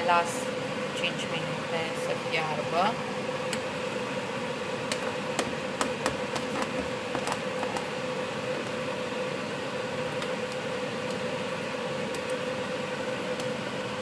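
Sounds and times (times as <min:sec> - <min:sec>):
fruit and sugar boiling: 0:00.0 - 0:14.0.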